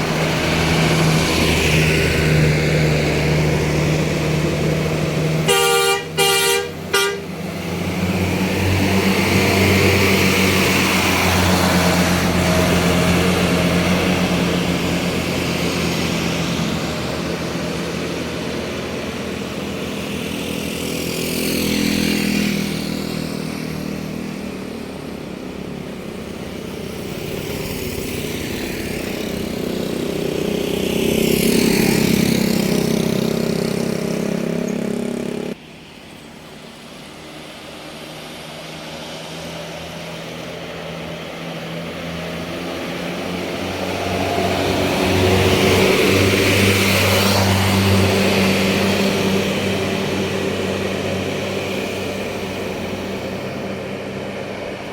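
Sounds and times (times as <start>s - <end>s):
large vehicles driving past: 0.0s - 54.9s.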